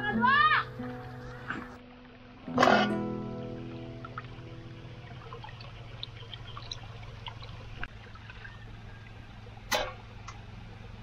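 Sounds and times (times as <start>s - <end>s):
water trickling into tub: 0.0s - 2.5s, 3.2s - 11.0s
water drips: 0.0s - 11.0s.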